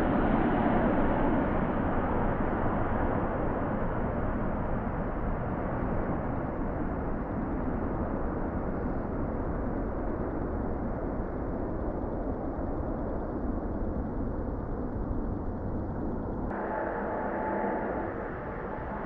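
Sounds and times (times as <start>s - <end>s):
jet engines rumbling at take-off: 0.0s - 19.0s.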